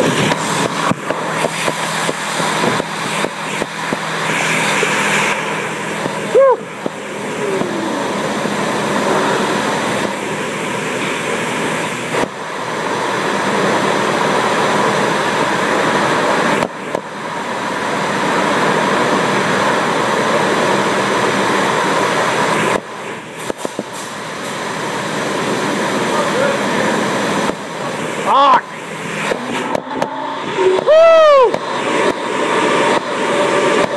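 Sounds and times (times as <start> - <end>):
car wash spraying water: 0.0 - 33.9.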